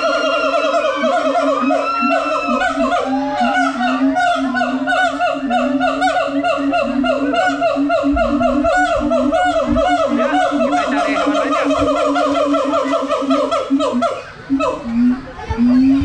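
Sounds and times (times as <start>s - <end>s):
apes whooping calls: 0.0s - 16.0s
low hooting: 0.0s - 16.0s.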